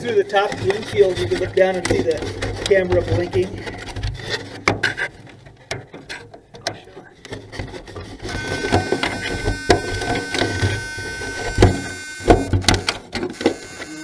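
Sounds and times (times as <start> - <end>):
hands handling model airplane: 0.0 - 14.0.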